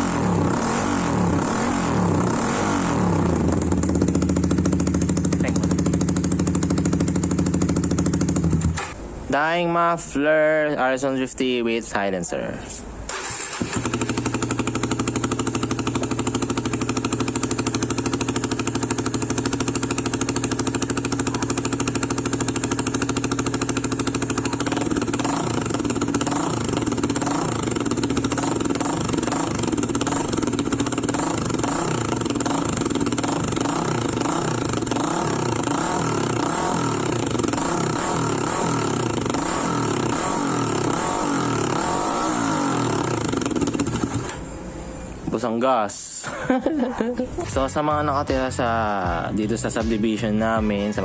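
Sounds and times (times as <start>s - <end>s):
motorcycle engine running: 0.0s - 9.2s, 13.1s - 45.3s.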